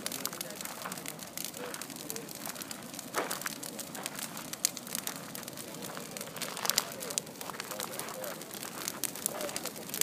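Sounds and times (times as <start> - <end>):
bonfire crackling and popping: 0.0 - 10.0
flames rushing: 0.0 - 10.0.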